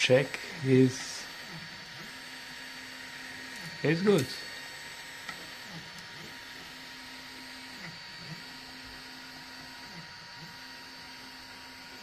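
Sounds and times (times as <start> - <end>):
printer stepper motors humming: 0.0 - 12.0.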